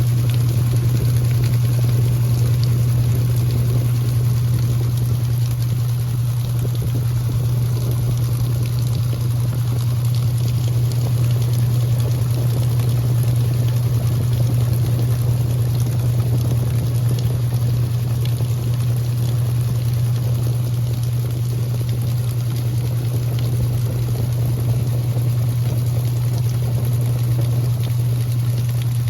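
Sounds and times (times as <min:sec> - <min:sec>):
washing machine motor hum: 0:00.0 - 0:29.0
water churning in tub: 0:00.0 - 0:29.0.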